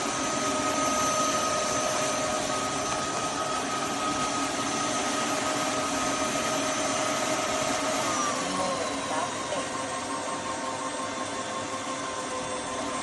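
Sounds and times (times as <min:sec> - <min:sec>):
vacuum suction and motor whine: 0:00.0 - 0:13.0.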